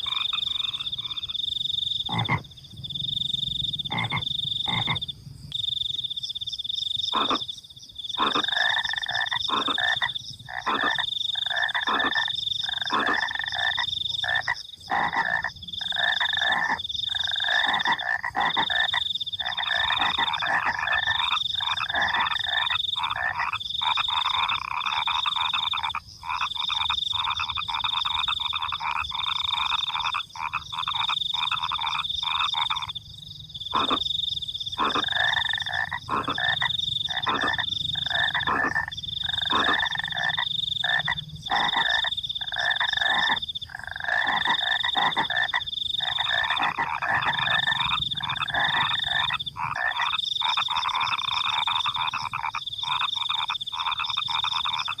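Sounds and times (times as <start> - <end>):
crickets trilling: 0.0 - 55.0
frogs croaking: 0.0 - 55.0.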